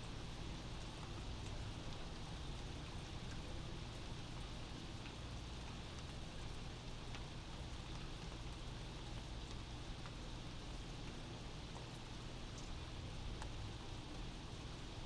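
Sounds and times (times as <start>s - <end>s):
steady rain heard indoors: 0.0s - 15.0s
faint drip ticks: 0.5s - 15.0s.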